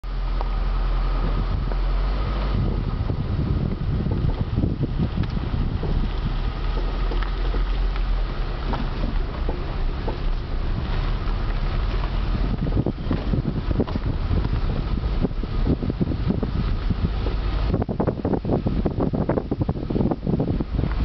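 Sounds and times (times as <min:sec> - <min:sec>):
low rumble: 0:00.0 - 0:21.0
wind buffeting microphone: 0:00.4 - 0:21.0.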